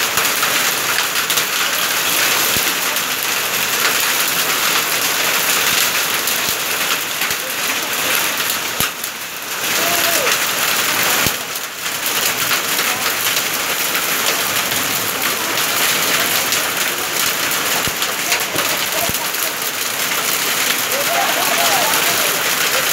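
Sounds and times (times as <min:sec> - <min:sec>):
heavy rain and hail on pavement: 0:00.0 - 0:22.9.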